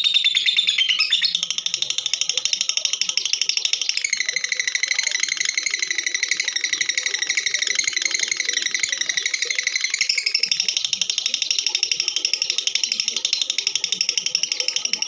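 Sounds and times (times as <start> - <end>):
lovebird chattering song: 0.0 - 15.0.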